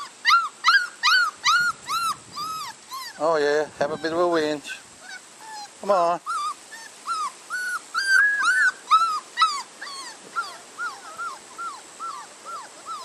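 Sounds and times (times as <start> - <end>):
puppies whining: 0.0 - 13.0.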